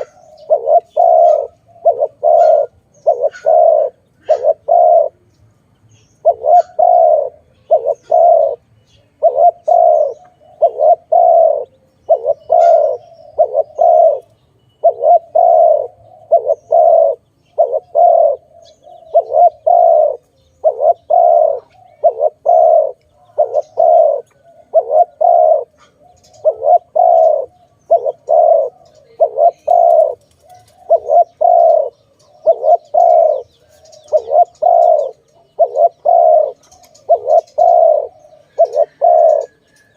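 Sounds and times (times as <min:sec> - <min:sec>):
dove cooing: 0:00.0 - 0:05.2, 0:06.2 - 0:39.9.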